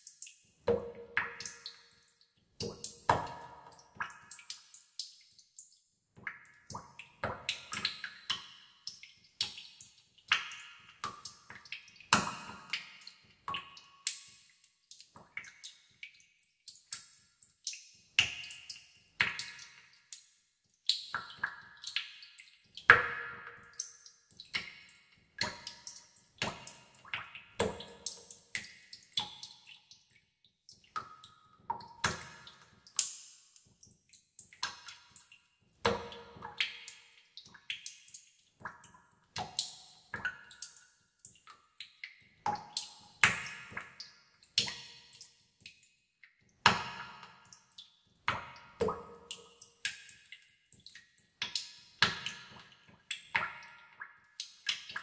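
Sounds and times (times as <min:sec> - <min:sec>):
water droplets dripping into pool: 0:00.0 - 0:55.0.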